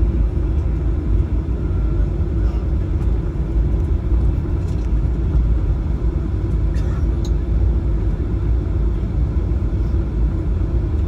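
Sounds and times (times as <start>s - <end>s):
aircraft engines idling: 0.0s - 11.0s.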